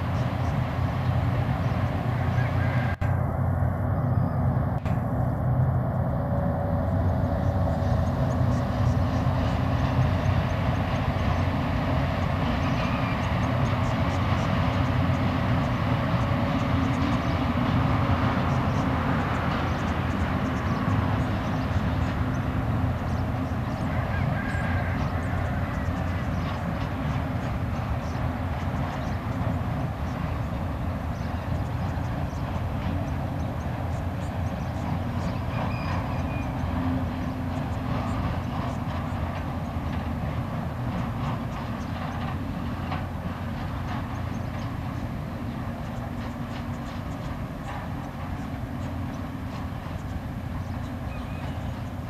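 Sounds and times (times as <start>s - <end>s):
locomotive engines droning: 0.0s - 52.0s
train wagons rolling past: 0.0s - 52.0s.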